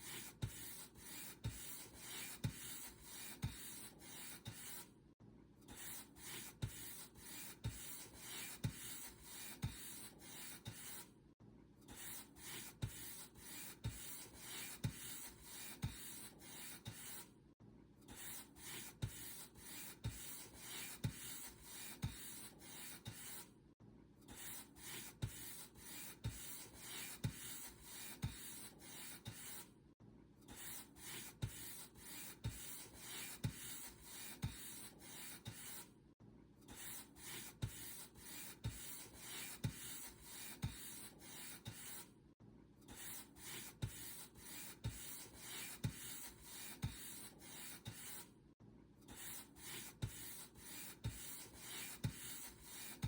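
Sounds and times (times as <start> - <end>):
paintbrush stroking a surface: 0.0 - 4.9, 5.8 - 11.1, 12.0 - 17.3, 18.2 - 23.4, 24.4 - 29.6, 30.6 - 35.9, 36.8 - 42.1, 43.0 - 48.3, 49.2 - 53.0.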